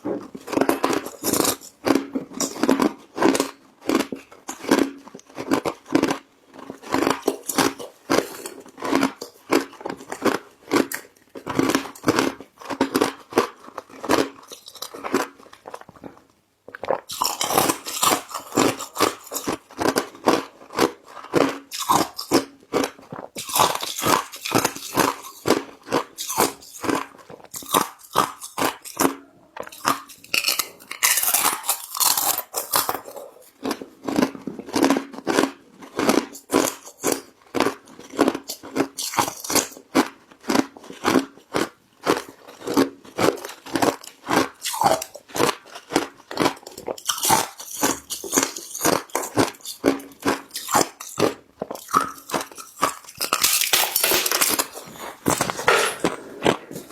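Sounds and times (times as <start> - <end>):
ice crunching between teeth: 0.0 - 56.9.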